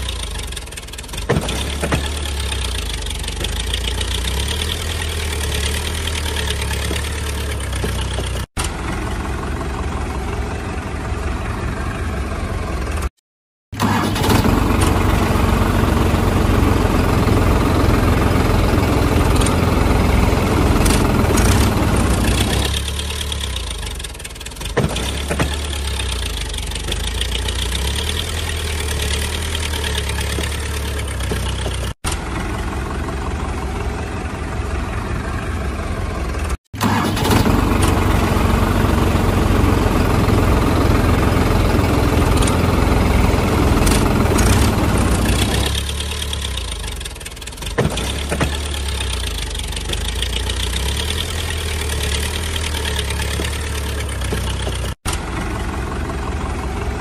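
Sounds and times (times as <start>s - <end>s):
vehicle engine idling: 0.0s - 13.1s, 13.8s - 57.0s.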